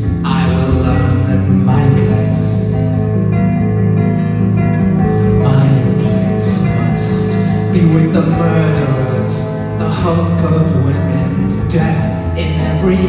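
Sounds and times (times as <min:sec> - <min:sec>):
man singing into a microphone: 0:00.0 - 0:03.1, 0:05.2 - 0:13.0
recorded backing track: 0:00.0 - 0:13.0.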